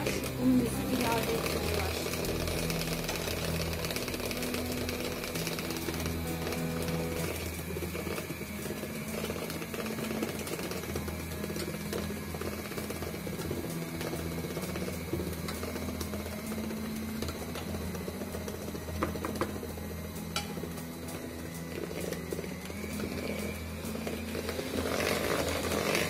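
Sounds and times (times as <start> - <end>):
electric hand mixer running: 0.0 - 26.0.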